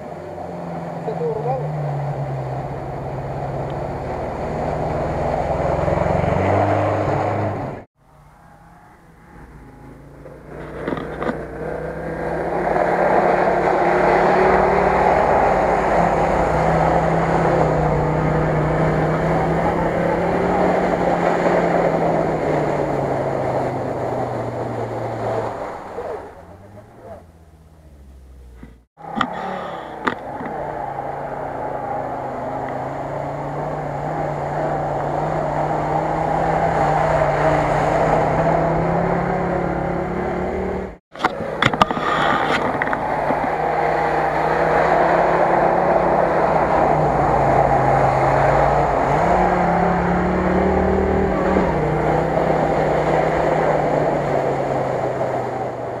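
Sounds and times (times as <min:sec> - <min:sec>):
off-road engine running: 0:00.0 - 0:56.0.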